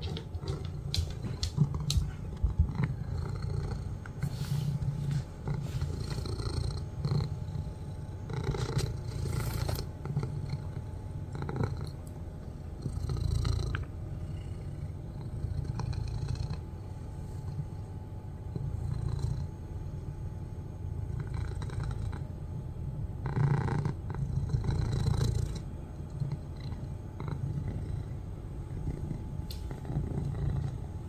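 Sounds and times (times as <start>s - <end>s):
cat purring loudly: 0.0s - 19.8s, 20.8s - 22.4s, 23.1s - 31.0s.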